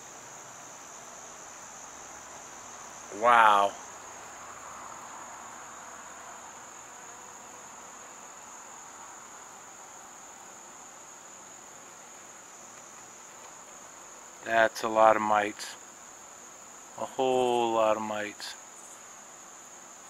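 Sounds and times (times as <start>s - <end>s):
faint even hiss: 0.0s - 20.0s
insects trilling: 0.0s - 20.0s.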